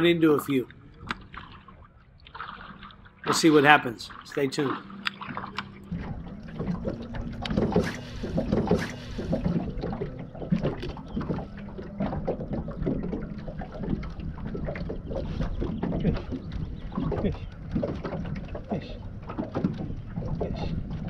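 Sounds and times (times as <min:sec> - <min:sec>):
water lapping against boat hull: 0:00.0 - 0:21.0
steady low hum: 0:00.6 - 0:21.0.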